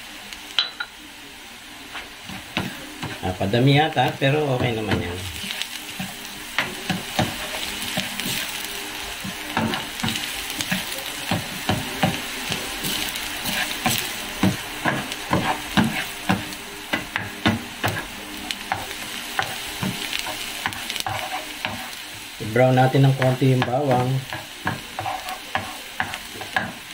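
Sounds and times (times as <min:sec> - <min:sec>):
onion sizzling in oil: 0:00.0 - 0:26.9
spatula scraping pan: 0:02.0 - 0:22.2, 0:22.8 - 0:26.9.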